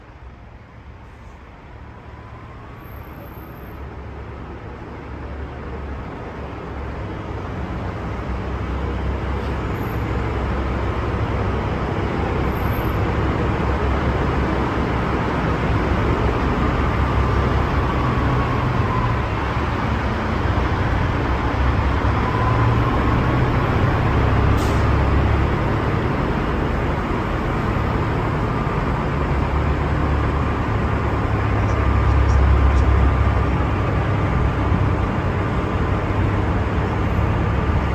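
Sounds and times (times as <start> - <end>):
heavy road traffic: 0.0 - 37.9
truck engines rumbling: 0.0 - 37.9.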